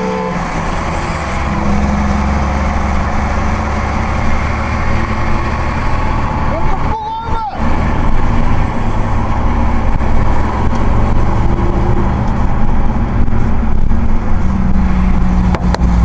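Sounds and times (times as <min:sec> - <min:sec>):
car interior road rumble: 0:00.0 - 0:16.0.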